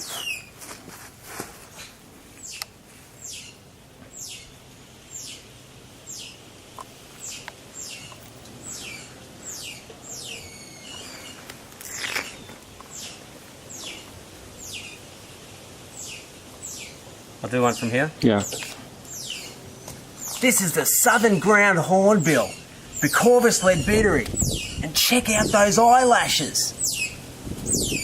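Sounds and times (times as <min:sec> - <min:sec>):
bird chirping: 0:00.0 - 0:00.5, 0:01.7 - 0:06.4, 0:07.2 - 0:17.1, 0:17.7 - 0:28.0
rustle: 0:00.0 - 0:28.0.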